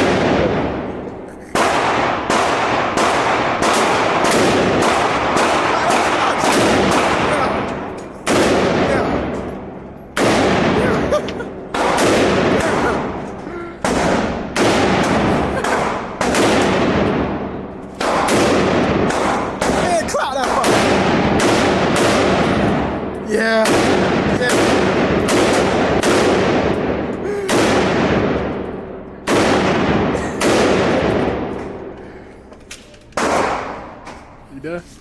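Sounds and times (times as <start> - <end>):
gunshots echoing: 0.0 - 31.9, 33.2 - 34.0.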